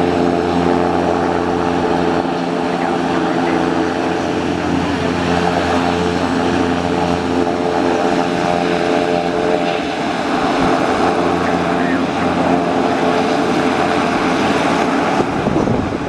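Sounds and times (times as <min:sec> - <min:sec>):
propeller engine idling: 0:00.0 - 0:16.0.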